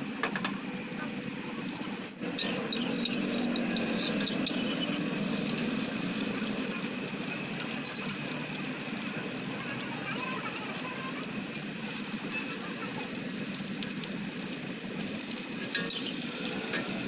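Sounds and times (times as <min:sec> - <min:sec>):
egg sizzling in hot oil: 0:00.0 - 0:17.0
street traffic: 0:00.0 - 0:17.0.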